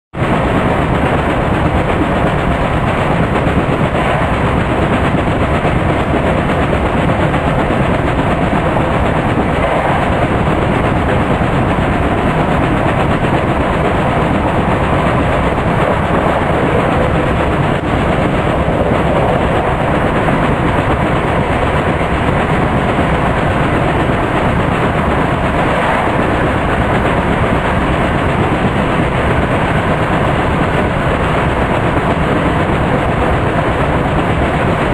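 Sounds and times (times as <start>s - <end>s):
train wheels rumbling on rails: 0.2s - 34.9s.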